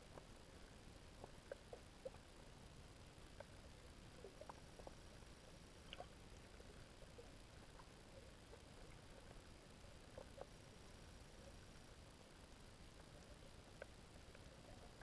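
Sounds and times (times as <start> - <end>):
faint underwater clicks and chirps: 0.0 - 15.0.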